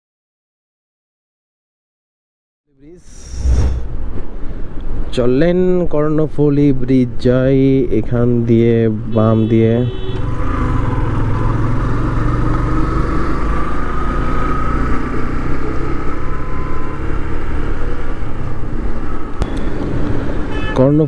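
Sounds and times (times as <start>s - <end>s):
road and wind noise: 3.0s - 9.2s, 10.0s - 21.0s.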